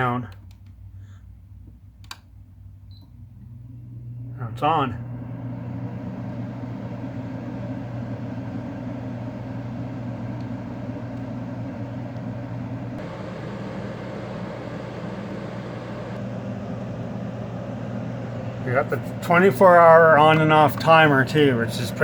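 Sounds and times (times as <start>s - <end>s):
compressor hum: 0.0s - 22.0s
air conditioner fan rushing: 2.0s - 22.0s.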